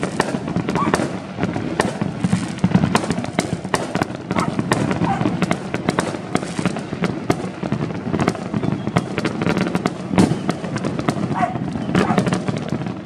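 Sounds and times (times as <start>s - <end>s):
distant explosions rumbling: 0.0s - 13.0s
firecrackers banging and popping: 0.0s - 13.0s.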